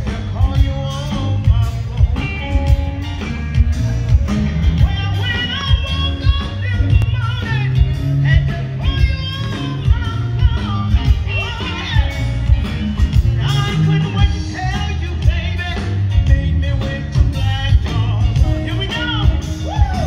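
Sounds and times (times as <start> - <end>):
drums: 0.0 - 20.0
electric bass: 0.0 - 20.0
electric guitar: 0.0 - 20.0.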